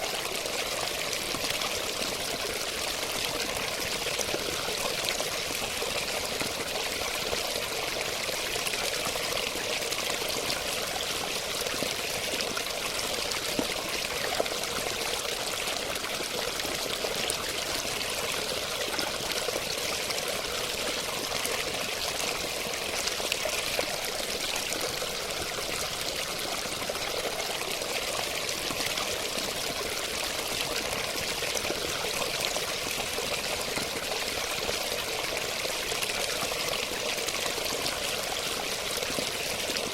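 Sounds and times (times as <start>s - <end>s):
water stream pouring and splashing: 0.0s - 39.9s.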